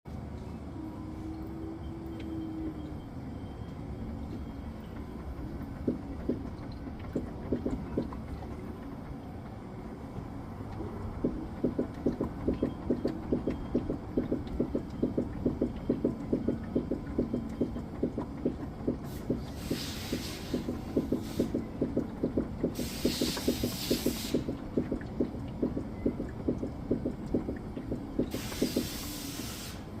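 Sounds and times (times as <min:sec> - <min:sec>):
rhythmic suspension knocking: 0:04.2 - 0:29.2.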